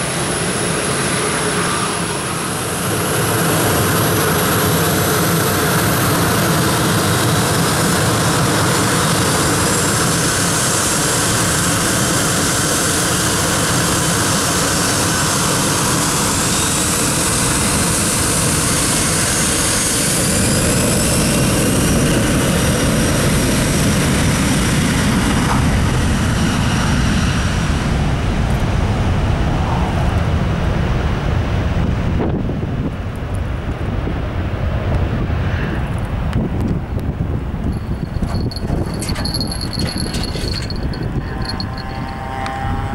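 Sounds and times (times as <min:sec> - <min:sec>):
jet engine roar: 0:00.0 - 0:42.9
jet engine whine: 0:00.0 - 0:42.9.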